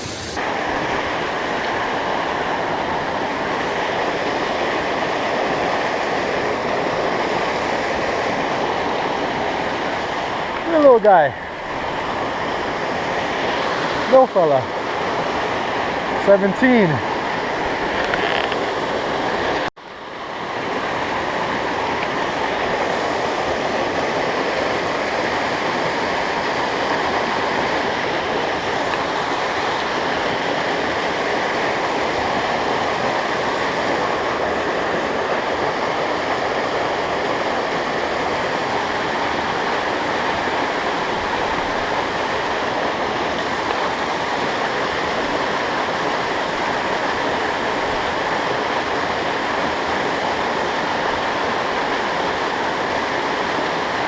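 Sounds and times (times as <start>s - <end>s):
mountain stream and waterfall rushing: 0.0s - 54.0s.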